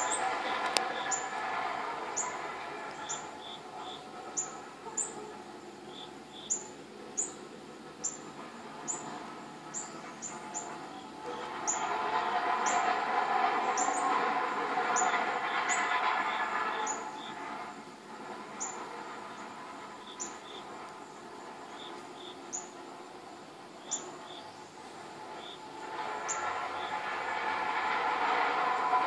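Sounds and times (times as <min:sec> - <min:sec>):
droning metallic hum: 0:00.0 - 0:29.0.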